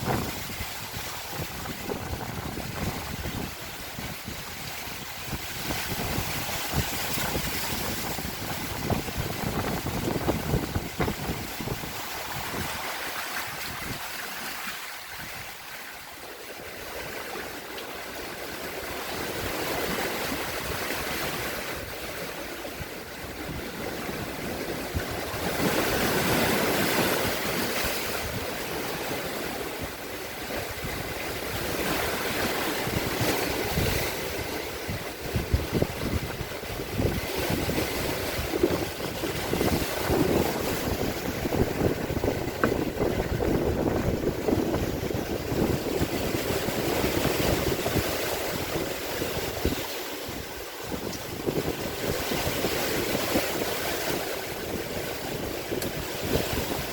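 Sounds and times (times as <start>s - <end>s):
sea waves rushing: 0.0s - 56.9s
strong gusty wind: 0.0s - 56.9s
wind buffeting microphone: 0.0s - 56.9s.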